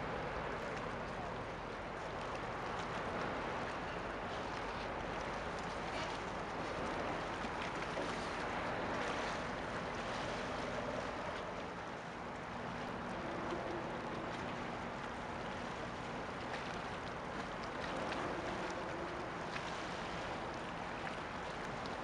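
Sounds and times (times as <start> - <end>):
water: 0.0 - 22.0
wind: 0.0 - 22.0.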